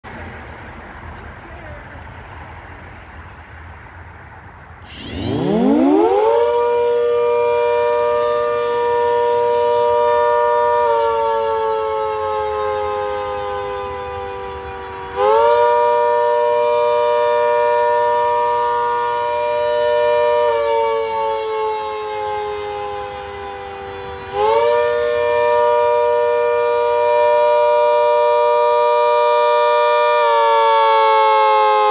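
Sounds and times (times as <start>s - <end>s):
rotating siren wailing: 4.8s - 31.9s.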